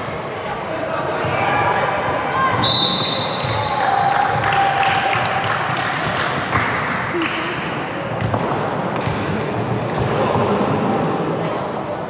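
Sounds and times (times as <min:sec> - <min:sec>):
noisy hall background: 0:00.0 - 0:12.0.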